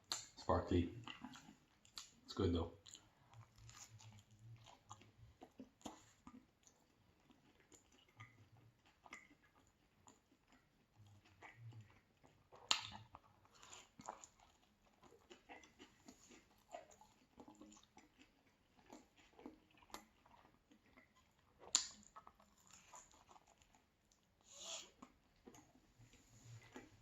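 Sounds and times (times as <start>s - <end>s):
chewing pizza: 0.0s - 27.0s.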